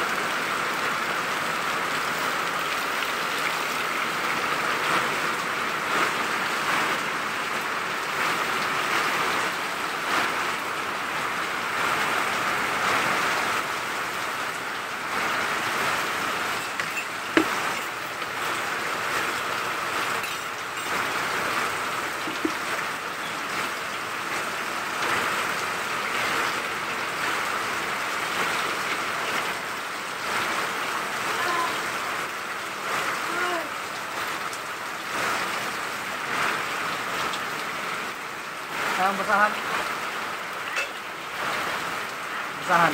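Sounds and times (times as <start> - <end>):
heavy rain on concrete: 0.0 - 42.9.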